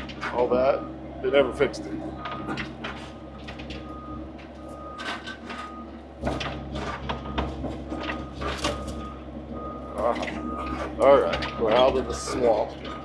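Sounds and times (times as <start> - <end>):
clanks and knocks: 0.0 - 0.6, 1.8 - 9.2, 10.0 - 13.0
engine running under load: 0.0 - 13.0.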